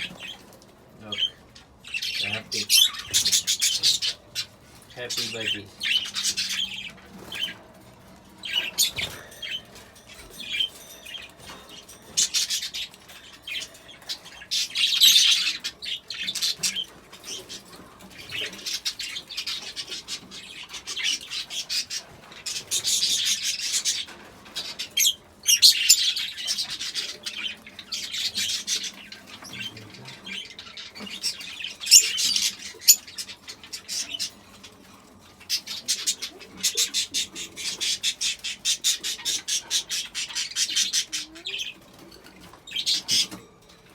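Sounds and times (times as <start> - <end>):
budgerigars chattering and squawking: 0.0 - 43.6.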